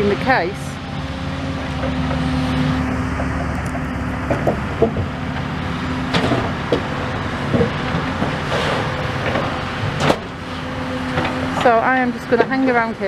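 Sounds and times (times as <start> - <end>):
engine hum: 0.0 - 13.0
outdoor traffic noise: 0.0 - 13.0.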